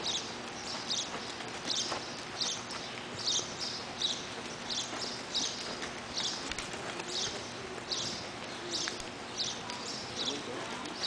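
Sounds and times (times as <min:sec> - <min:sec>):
horses moving on arena footing: 0:00.0 - 0:11.0.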